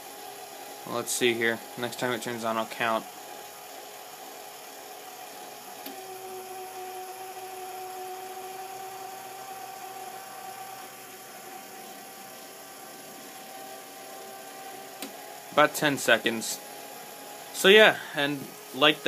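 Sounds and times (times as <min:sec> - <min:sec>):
faint electrical whine: 0:00.0 - 0:19.0.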